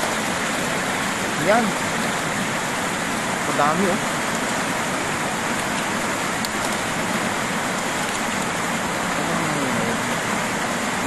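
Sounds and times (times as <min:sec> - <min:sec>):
water pouring over spillway: 0:00.0 - 0:11.0.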